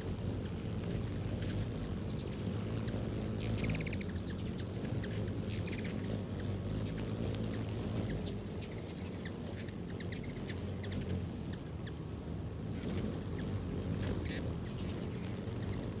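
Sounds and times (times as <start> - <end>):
hummingbirds chipping and twittering: 0.0 - 16.0.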